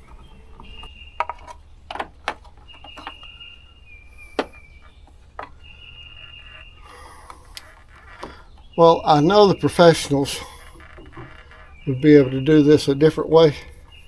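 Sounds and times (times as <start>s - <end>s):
light knocks and clicks: 0.0s - 14.0s.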